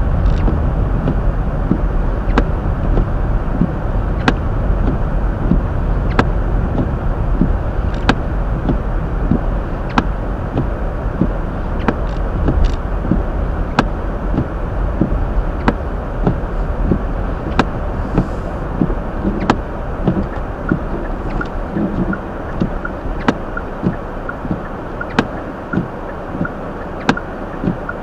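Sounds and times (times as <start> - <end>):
road and tyre rumble: 0.0 - 28.0.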